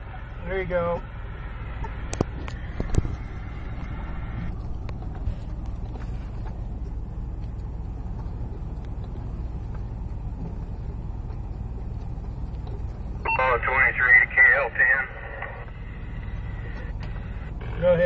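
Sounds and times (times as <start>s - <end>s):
higher steady hum: 0.0s - 18.0s
truck engine low rumble: 0.0s - 18.0s.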